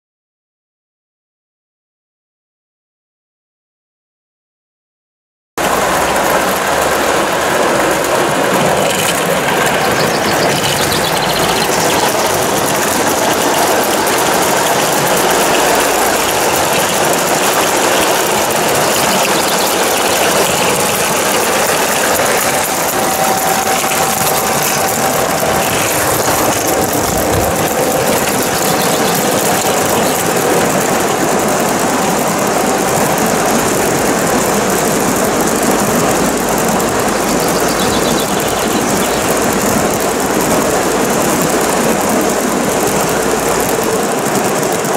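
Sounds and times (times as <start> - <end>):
model trains rushing: 5.6 - 44.9
wagons rolling on track: 5.6 - 44.9.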